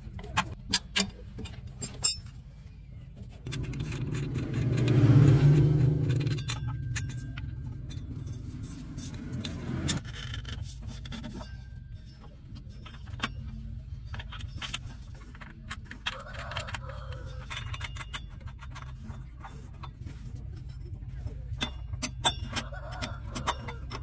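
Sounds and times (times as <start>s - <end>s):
metal tools clinking and scraping: 0.0s - 24.0s.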